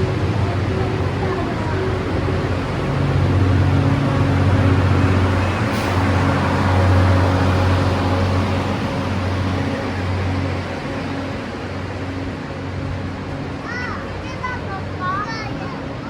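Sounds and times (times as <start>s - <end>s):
train passing with low drone: 0.0s - 16.0s.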